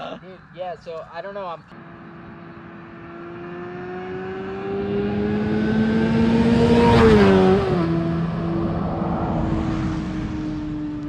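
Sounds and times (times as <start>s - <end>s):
vehicle engine passing by: 1.7s - 11.0s.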